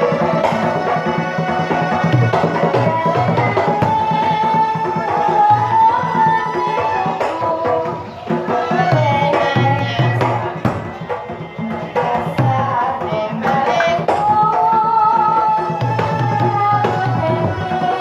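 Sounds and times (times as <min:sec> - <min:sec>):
hand drums beating: 0:00.0 - 0:18.0.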